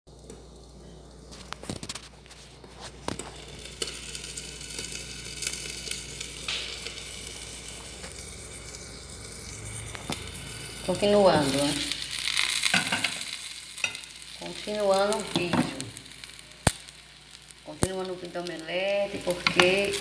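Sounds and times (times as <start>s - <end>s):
omelette sizzling in a pan: 0.1s - 20.0s.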